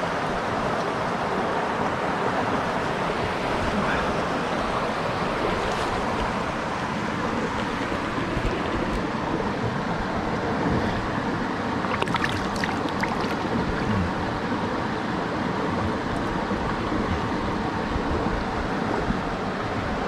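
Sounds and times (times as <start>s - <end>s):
river water rushing over stones: 0.0s - 20.0s.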